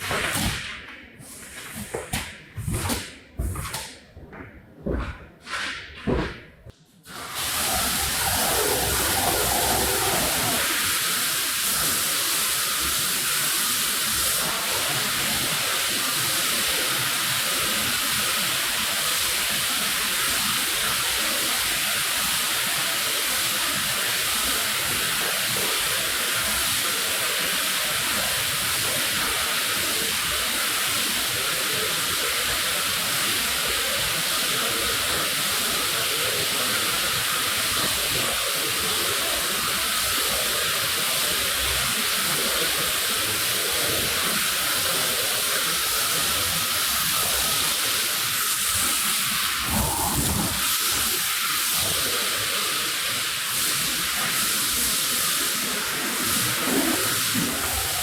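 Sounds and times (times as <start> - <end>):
spray hissing onto wet rug: 7.1 - 58.0.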